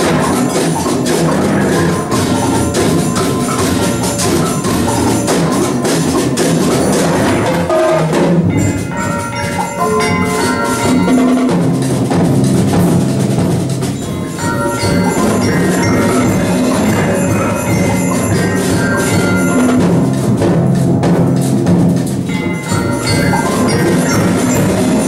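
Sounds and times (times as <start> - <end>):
marimbas playing fast: 0.0 - 25.0
tubular bells ringing: 0.0 - 25.0.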